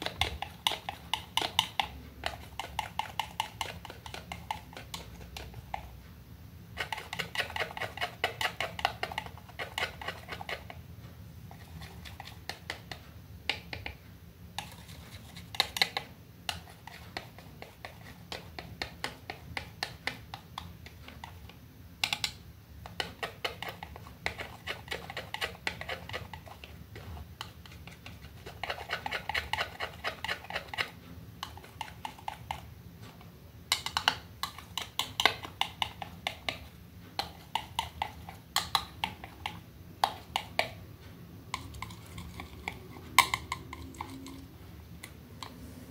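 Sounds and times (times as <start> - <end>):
palette knife scraping and tapping: 0.0 - 6.0, 6.8 - 10.8, 11.5 - 14.0, 14.6 - 40.8, 41.4 - 45.7.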